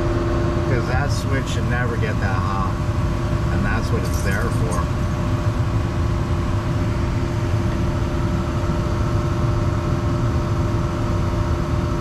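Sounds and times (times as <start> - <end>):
gas furnace rumbling: 0.0 - 9.9
blower fan hum: 0.0 - 12.0.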